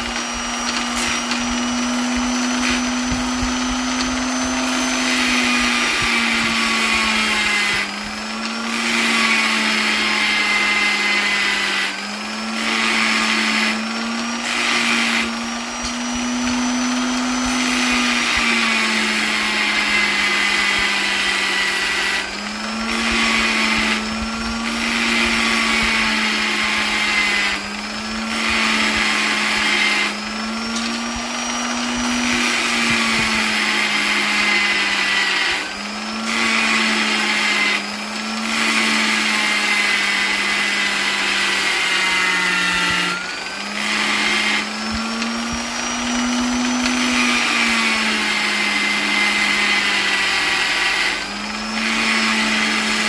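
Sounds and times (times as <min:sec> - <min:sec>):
electric polisher motor whining: 0:00.0 - 0:53.0.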